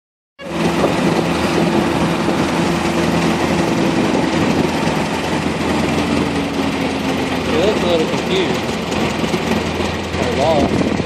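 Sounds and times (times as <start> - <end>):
tractor engine running: 0.4 - 11.0.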